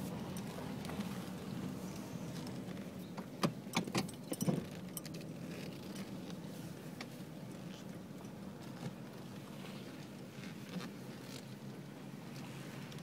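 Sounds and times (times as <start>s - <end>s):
car hum from inside cabin: 0.0s - 13.0s.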